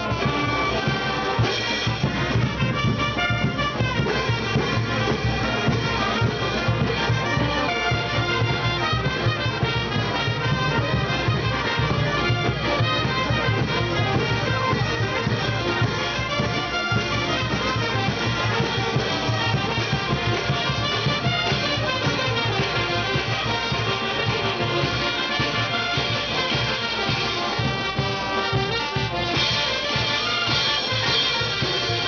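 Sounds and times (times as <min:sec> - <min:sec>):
brass band playing dance music: 0:00.0 - 0:32.0.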